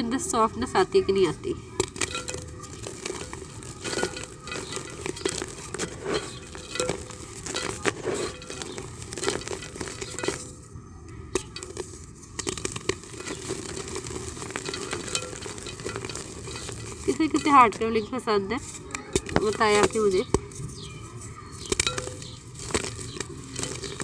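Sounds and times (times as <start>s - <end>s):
powder pattering into clay pot: 1.5s - 24.0s
dry clay chunks crumbling: 1.7s - 24.0s.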